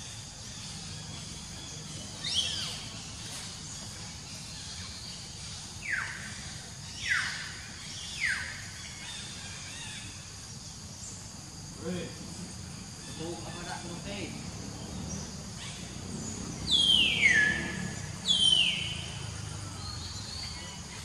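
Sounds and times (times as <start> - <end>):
high hum of insects: 0.0 - 21.0.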